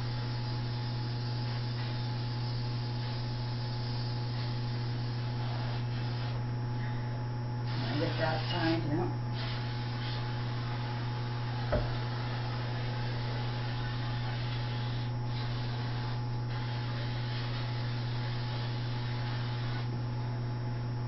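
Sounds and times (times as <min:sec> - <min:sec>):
constant hiss: 0:00.0 - 0:06.4, 0:07.6 - 0:20.2
low electrical hum: 0:00.0 - 0:21.0.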